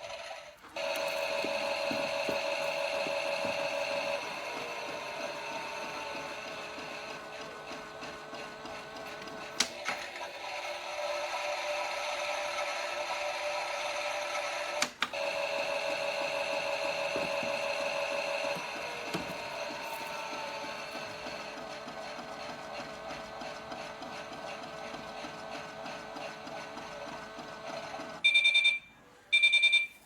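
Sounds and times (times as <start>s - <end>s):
toy washing machine whirring: 0.0s - 28.7s.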